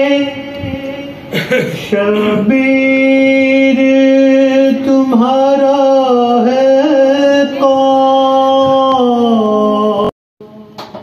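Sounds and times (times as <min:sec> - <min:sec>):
man singing into microphone: 0:00.0 - 0:10.7.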